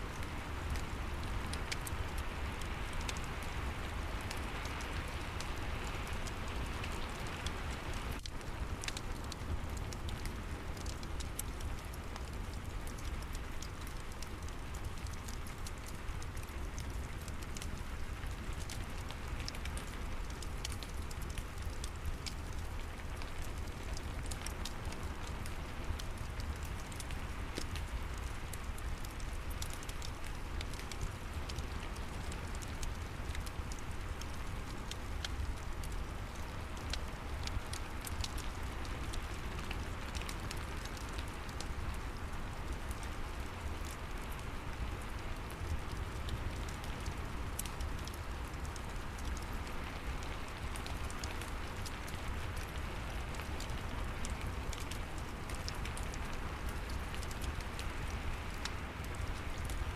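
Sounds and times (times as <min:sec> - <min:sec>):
steady rain falling: 0:00.0 - 0:59.9
wood fire crackling: 0:00.0 - 0:59.9.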